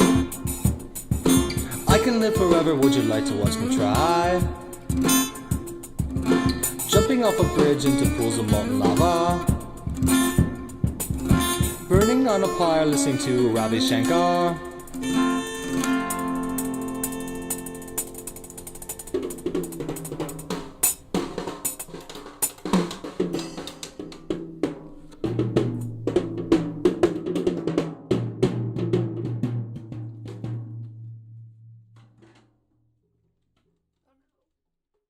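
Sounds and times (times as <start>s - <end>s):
band playing drum rolls over chords: 0.0s - 31.1s.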